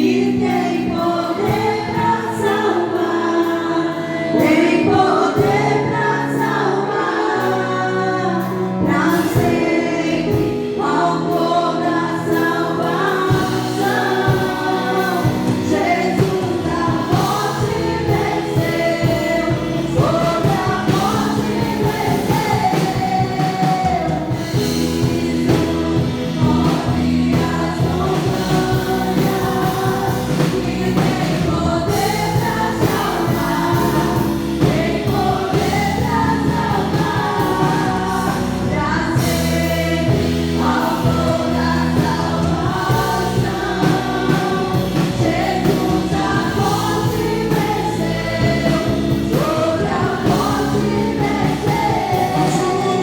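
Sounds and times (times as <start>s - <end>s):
band with bass and chords: 0.0s - 53.0s
group of voices singing: 0.0s - 53.0s.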